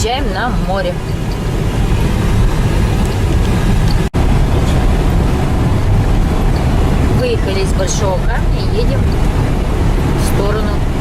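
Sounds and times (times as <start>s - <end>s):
car driving rumble: 0.0s - 11.0s
road and wind noise: 0.0s - 11.0s.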